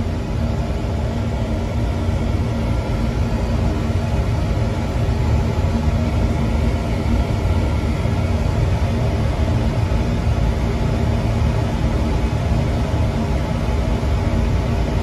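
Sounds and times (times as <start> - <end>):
oil boiler running: 0.0 - 15.0.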